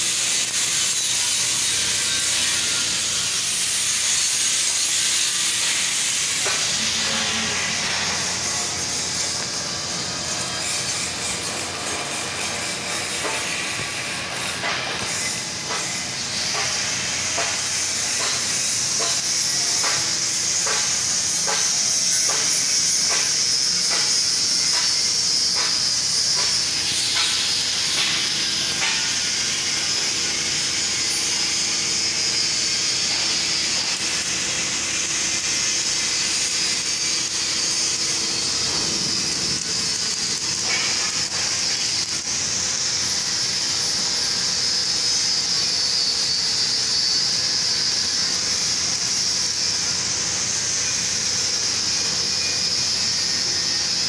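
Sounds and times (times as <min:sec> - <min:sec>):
arc welding hiss and crackle: 0:00.0 - 0:54.0.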